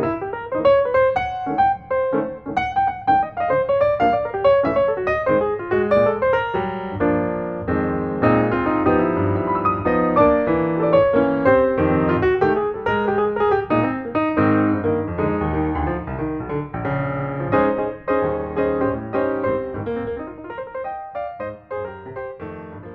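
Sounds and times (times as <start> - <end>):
piano music: 0.0 - 22.9.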